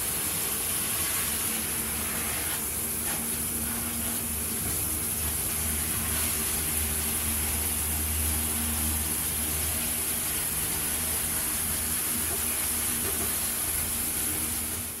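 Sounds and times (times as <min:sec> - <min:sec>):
shower water spraying: 0:00.0 - 0:15.0.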